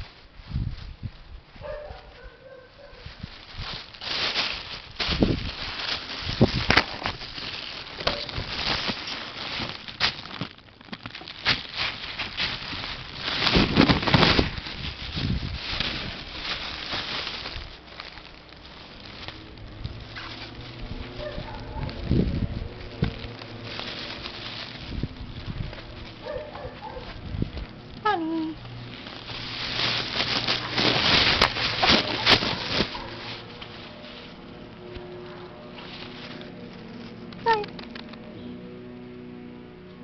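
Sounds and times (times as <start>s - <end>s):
plastic bag crinkling: 0.0s - 38.4s.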